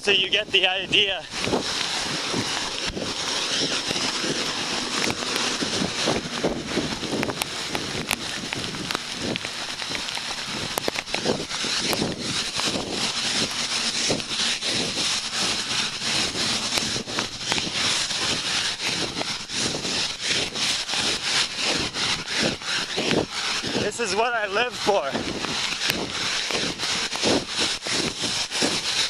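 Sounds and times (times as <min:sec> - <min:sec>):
footsteps on wet pavement: 0:00.0 - 0:29.0
heavy rain on microphone: 0:00.0 - 0:29.0.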